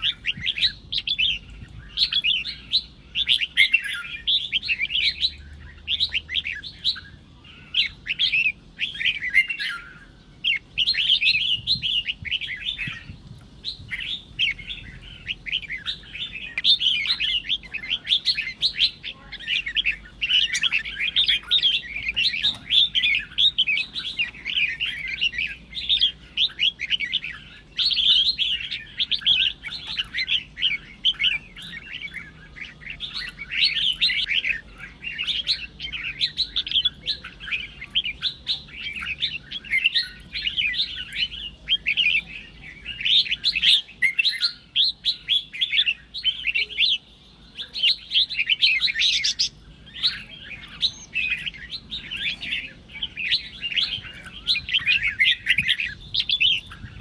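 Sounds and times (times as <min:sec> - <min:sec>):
birds chirping song: 0:00.0 - 0:57.0.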